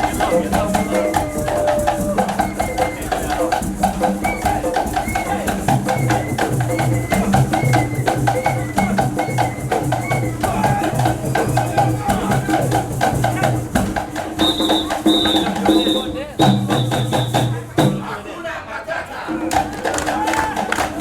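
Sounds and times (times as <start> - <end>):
music with hand percussion: 0.0 - 18.2, 19.3 - 21.0.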